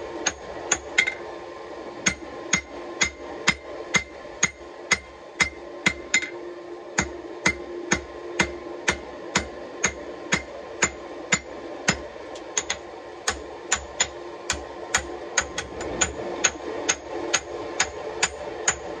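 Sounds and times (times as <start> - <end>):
hammer striking steel on anvil: 0.2 - 1.2, 2.0 - 6.4, 7.0 - 18.9.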